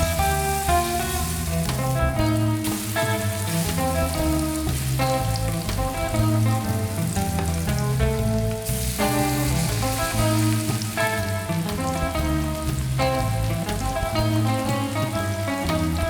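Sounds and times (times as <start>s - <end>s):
background music: 0.0s - 16.0s
chicken sizzling in hot oil: 0.0s - 16.0s.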